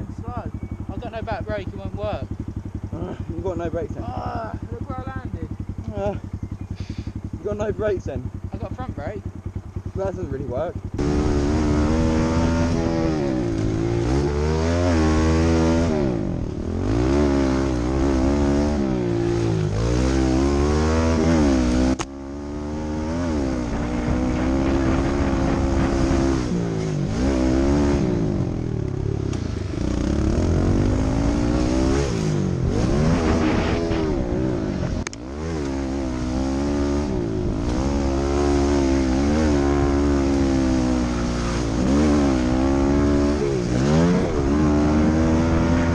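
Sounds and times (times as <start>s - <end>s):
small motorbike engine revving: 0.0s - 45.9s.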